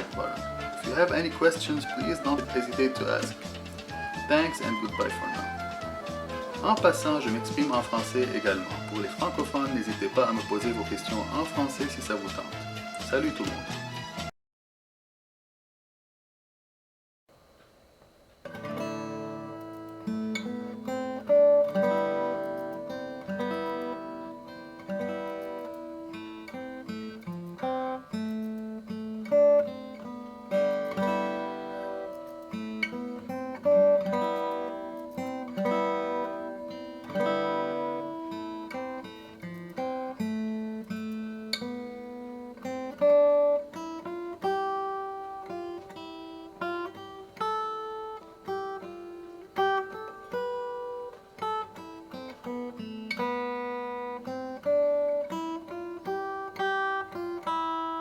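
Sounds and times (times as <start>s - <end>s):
fingerstyle acoustic guitar: 0.0s - 14.3s, 18.4s - 58.0s.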